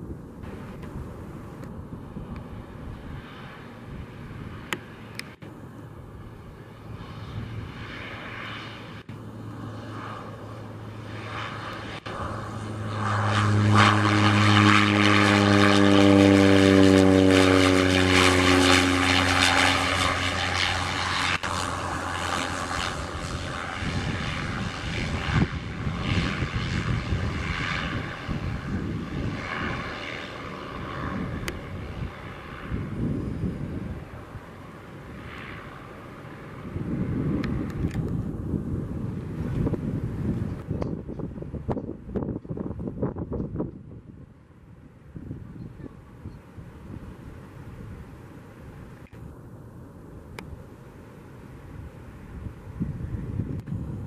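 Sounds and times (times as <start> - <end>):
turboprop plane droning: 0.0 - 54.0.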